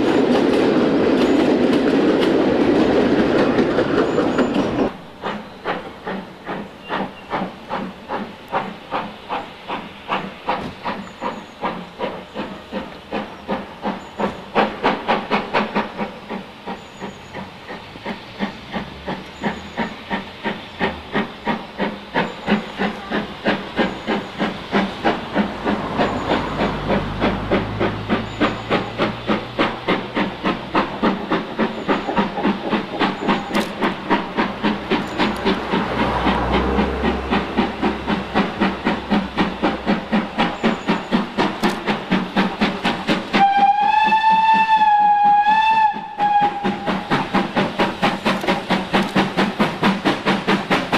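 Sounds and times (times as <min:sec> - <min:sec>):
steam hiss: 0:00.0 - 0:50.9
steam locomotive chuffing: 0:00.0 - 0:50.9.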